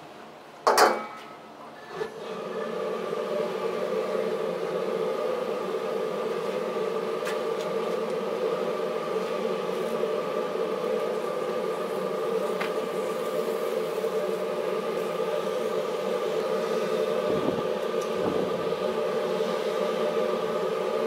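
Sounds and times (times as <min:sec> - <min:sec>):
gas burner flame rushing: 0:02.0 - 0:21.0.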